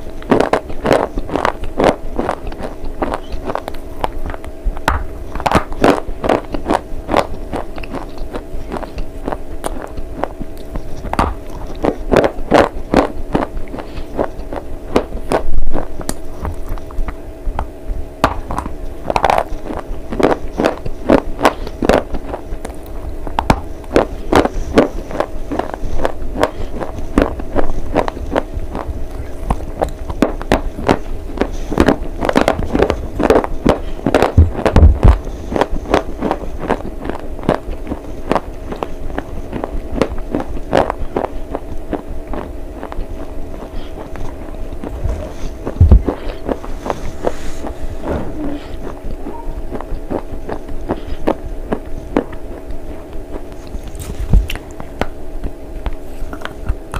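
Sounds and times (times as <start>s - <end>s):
crunchy chewing: 0.0s - 4.6s, 5.3s - 17.2s, 18.2s - 56.9s
steady hum: 0.0s - 56.9s.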